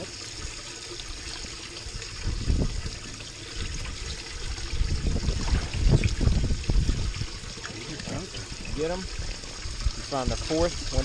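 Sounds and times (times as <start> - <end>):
water sloshing and splashing: 0.0 - 11.0
water trickling: 0.0 - 11.0.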